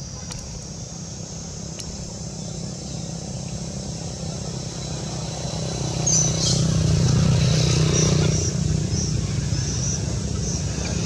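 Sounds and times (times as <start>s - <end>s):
vehicle engine running: 1.3s - 11.0s.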